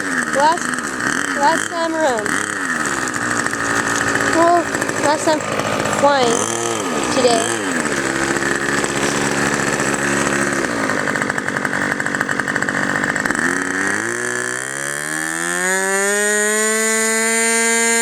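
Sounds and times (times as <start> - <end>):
model plane engine whining: 0.0 - 18.0.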